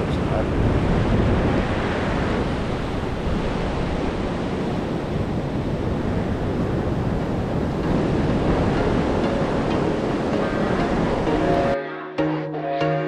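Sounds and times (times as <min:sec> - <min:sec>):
surf washing onto beach: 0:00.0 - 0:11.8
wind on microphone: 0:00.0 - 0:11.8.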